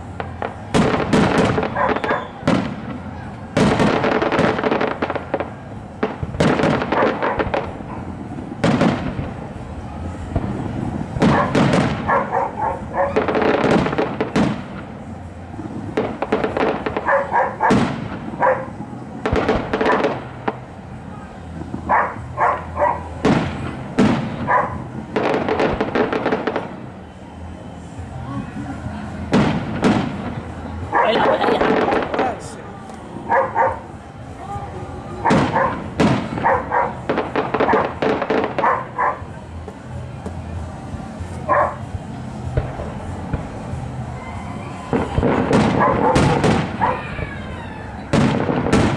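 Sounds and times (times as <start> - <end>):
fireworks bursting with sharp bangs: 0.0 - 48.9
fireworks crackle: 0.0 - 48.9.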